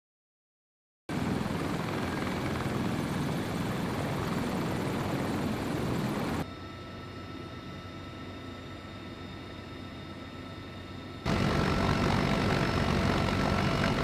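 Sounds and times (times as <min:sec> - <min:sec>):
helicopter cabin drone and whine: 0:01.1 - 0:14.0
helicopter engines and rotors: 0:01.1 - 0:14.0.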